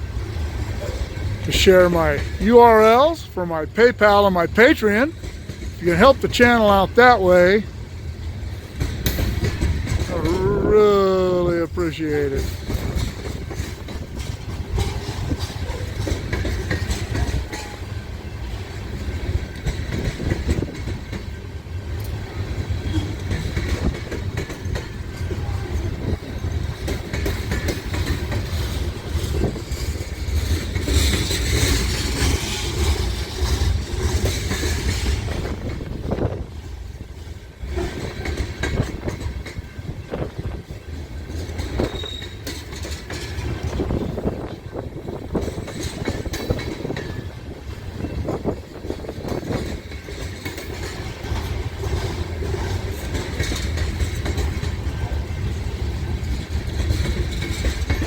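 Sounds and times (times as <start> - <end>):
wheels hissing on rails: 0.0 - 2.4, 7.3 - 58.0
freight train wheels clacking: 0.0 - 58.0
low train rumble: 0.0 - 58.0.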